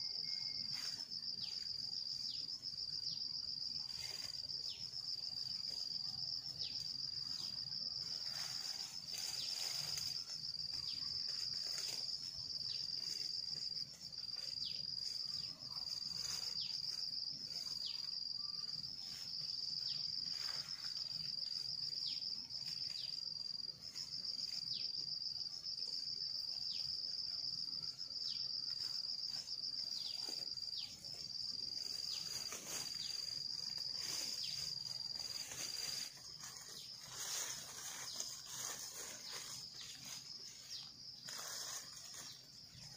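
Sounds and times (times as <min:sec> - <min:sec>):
high-pitched insect trill: 0:00.0 - 0:42.9.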